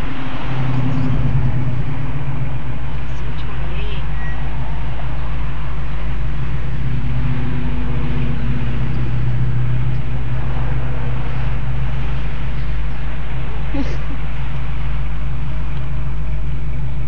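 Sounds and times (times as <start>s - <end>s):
car road and engine noise: 0.0s - 17.0s
wind buffeting microphone: 0.0s - 17.0s.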